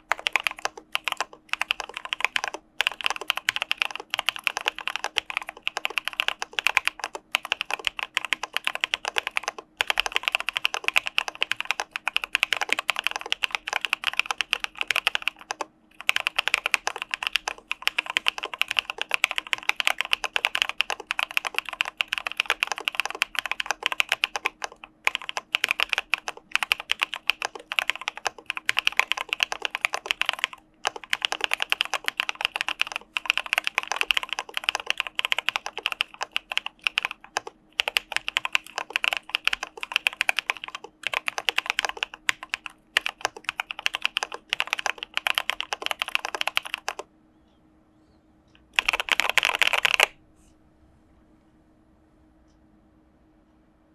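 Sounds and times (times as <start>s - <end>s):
mechanical keyboard typing: 0.0s - 47.1s, 48.6s - 50.2s.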